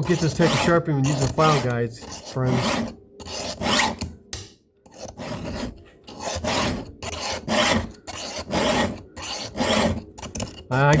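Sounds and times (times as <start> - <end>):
file rasping on chain teeth: 0.0 - 4.1, 4.9 - 11.0.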